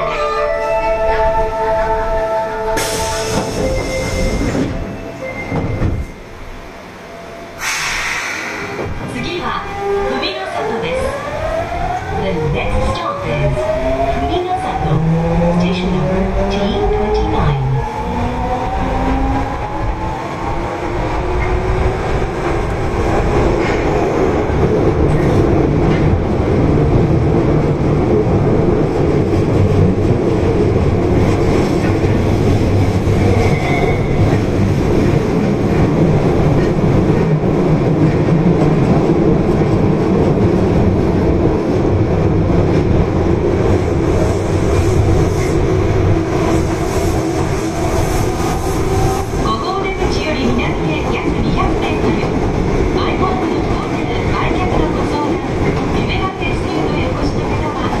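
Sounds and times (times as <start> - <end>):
subway train rumbling in tunnel: 0.0 - 58.0.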